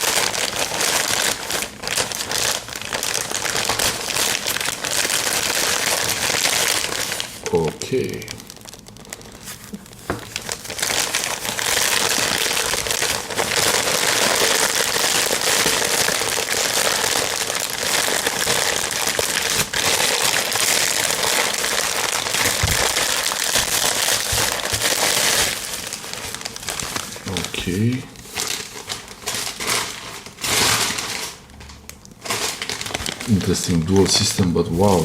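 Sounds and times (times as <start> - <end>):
packing material crinkling: 0.0 - 35.0.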